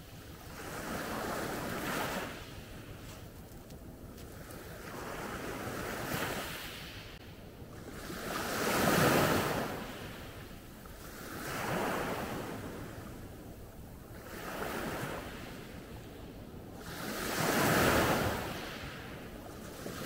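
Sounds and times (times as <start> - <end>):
small waves breaking on shore: 0.0 - 3.4, 4.2 - 20.0.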